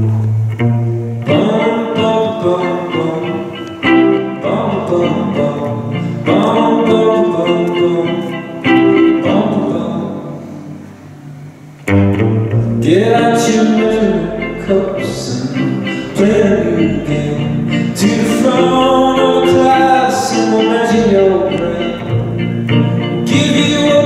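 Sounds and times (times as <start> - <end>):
guitar chords strummed: 0.0 - 24.0.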